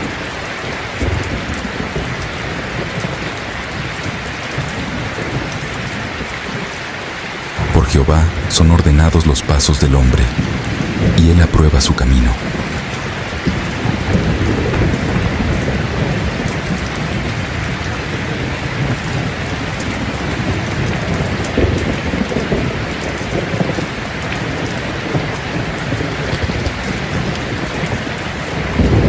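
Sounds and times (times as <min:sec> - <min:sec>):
steady rain falling: 0:00.0 - 0:29.0
low rumbling thunder: 0:01.0 - 0:06.6, 0:07.6 - 0:11.6, 0:12.2 - 0:29.0.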